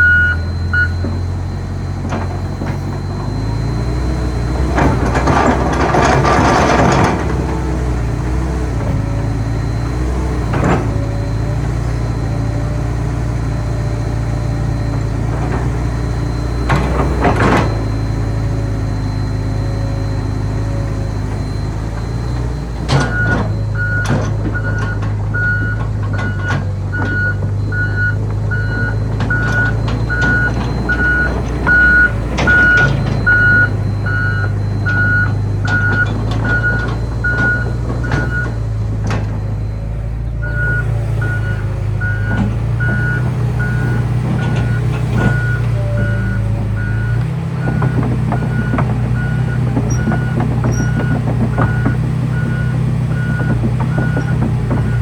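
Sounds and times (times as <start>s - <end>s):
excavator diesel engine running: 0.0s - 55.0s
warning alarm beeping: 0.0s - 55.0s.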